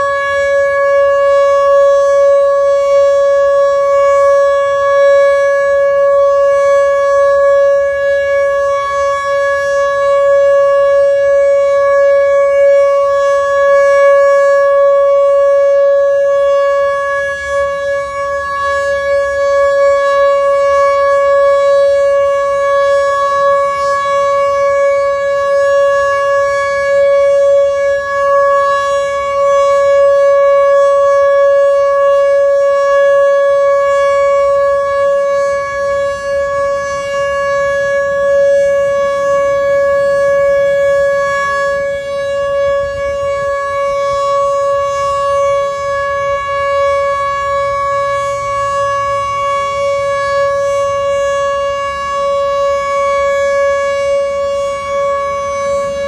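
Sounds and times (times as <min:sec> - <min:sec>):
warning siren steady tone: 0:00.0 - 0:56.0.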